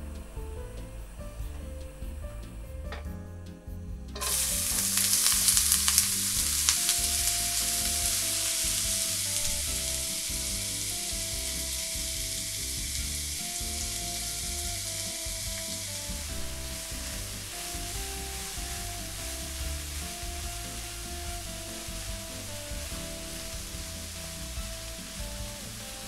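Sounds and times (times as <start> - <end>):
onions sizzling in hot oil: 4.2 - 26.0.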